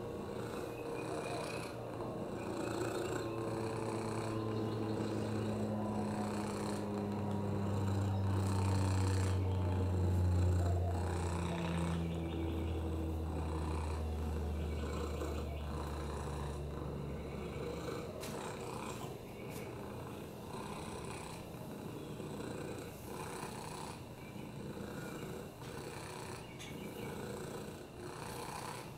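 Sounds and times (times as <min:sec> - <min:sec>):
cat purring: 0:00.0 - 0:28.9.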